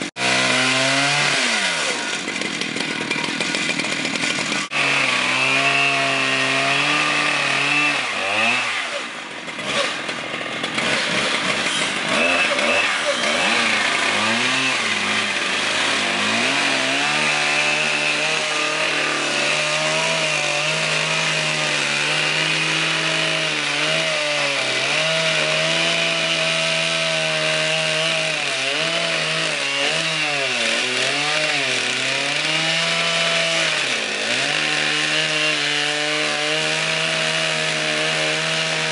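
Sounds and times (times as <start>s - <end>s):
chainsaws cutting tree trunk: 0.0s - 38.9s.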